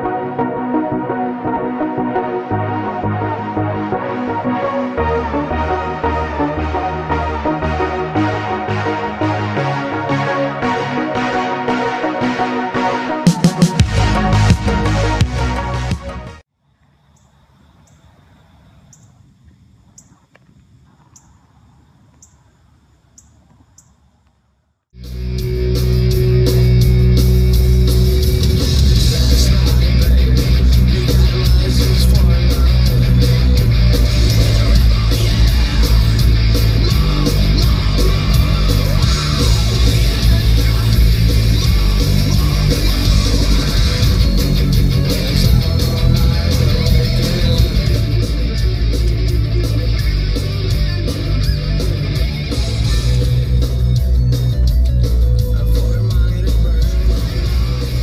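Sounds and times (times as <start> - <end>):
rock music with guitar: 0.0 - 16.4, 25.0 - 58.0.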